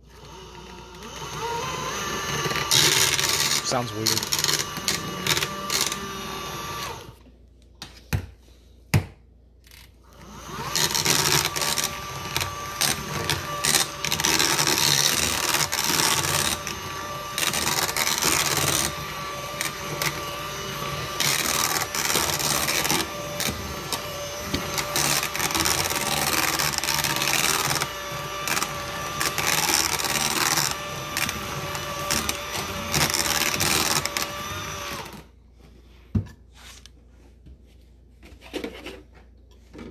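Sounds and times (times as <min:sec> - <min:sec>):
beaters churning mashed potatoes: 0:00.0 - 0:07.1, 0:10.2 - 0:35.2
hand mixer whining: 0:00.0 - 0:07.2, 0:10.1 - 0:35.4.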